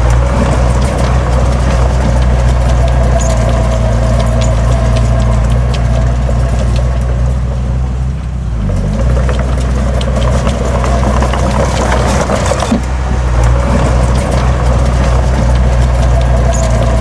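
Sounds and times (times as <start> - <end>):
heavy diesel engine running: 0.0 - 17.0
metallic clanks: 0.0 - 17.0.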